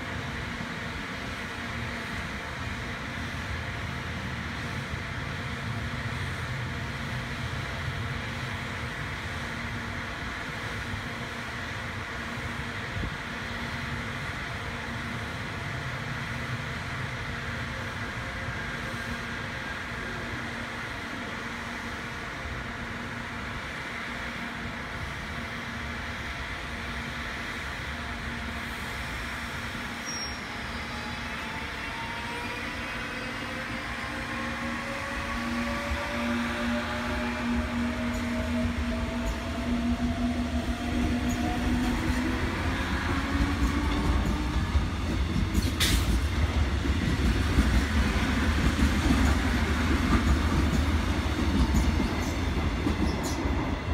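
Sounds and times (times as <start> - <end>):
train air-conditioning hum and hiss: 0.0 - 53.9
wheels rumbling on rail: 0.0 - 53.9.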